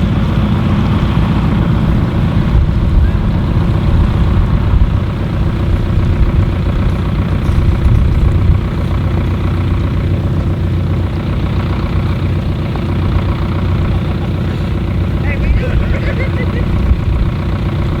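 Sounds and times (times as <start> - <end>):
heavy engine running: 0.0 - 18.0.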